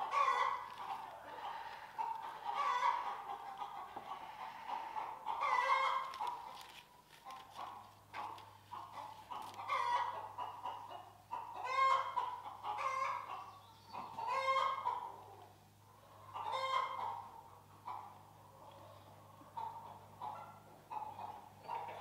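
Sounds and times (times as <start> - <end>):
chickens clucking: 0.0 - 6.6, 7.2 - 22.0.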